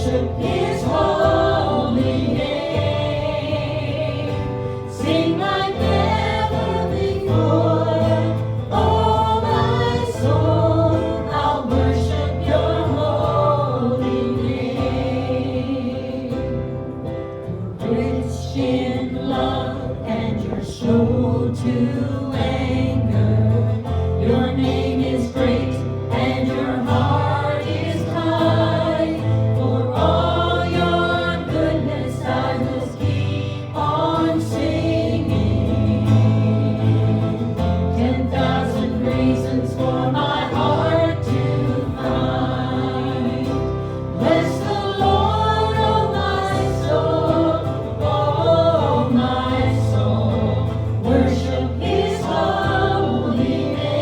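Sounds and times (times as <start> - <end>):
group singing worship song: 0.0 - 54.0.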